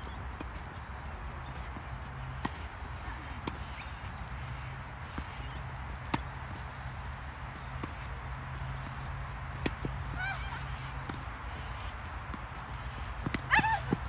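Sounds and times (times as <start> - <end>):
tennis ball racket hits: 1.4 - 4.2, 4.9 - 7.0, 7.6 - 14.0.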